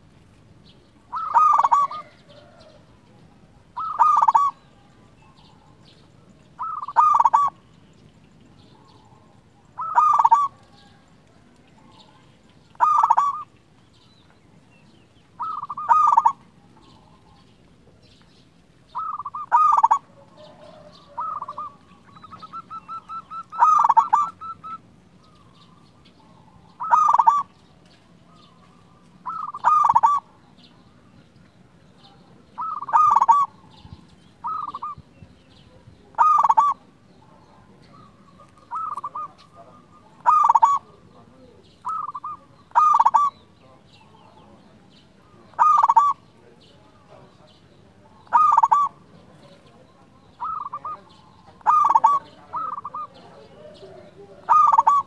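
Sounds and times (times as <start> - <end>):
dove cooing: 1.0 - 7.6, 8.6 - 13.6, 15.3 - 18.0, 18.9 - 31.1, 32.1 - 44.5, 45.2 - 55.0.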